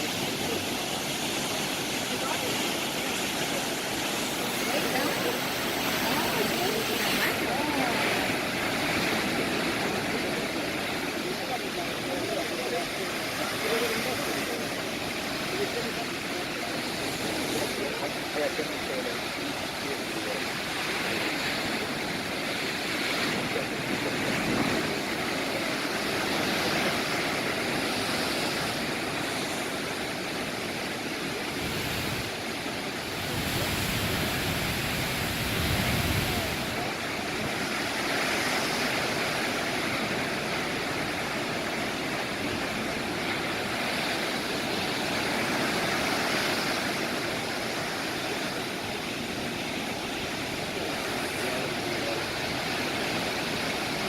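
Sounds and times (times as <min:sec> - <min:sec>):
low surf rumble: 0:00.0 - 0:54.0
waves breaking: 0:00.0 - 0:54.0.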